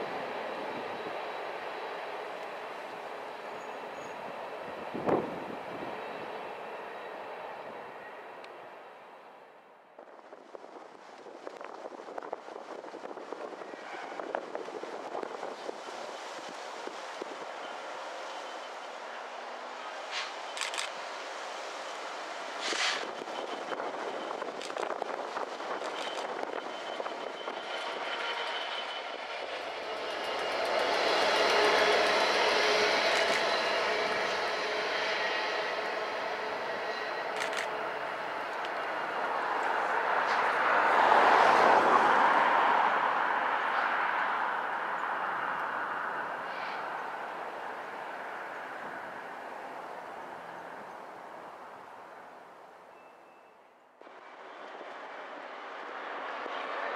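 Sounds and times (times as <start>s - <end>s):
diesel locomotive engine hum: 0.0s - 56.9s
rail noise: 0.0s - 56.9s.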